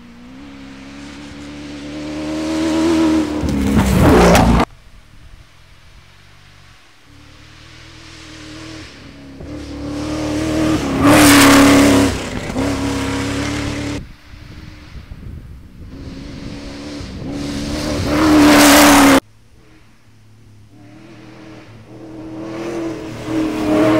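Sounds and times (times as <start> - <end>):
rally car engines passing: 0.0 - 4.7, 5.7 - 23.9
gravel spray hiss: 4.5 - 23.9.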